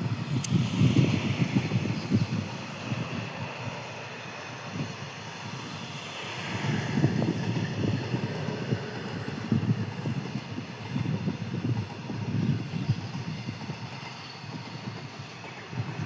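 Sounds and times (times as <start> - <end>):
train rumbling and rushing: 0.0 - 16.0.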